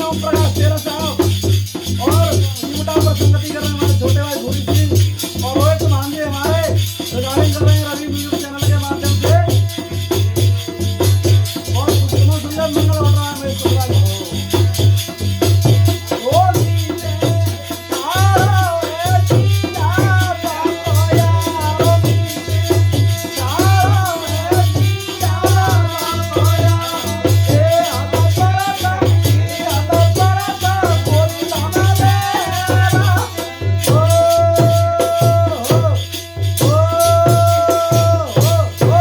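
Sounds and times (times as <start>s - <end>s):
folk song melody over a beat: 0.0s - 39.0s
rattling percussion: 0.0s - 39.0s.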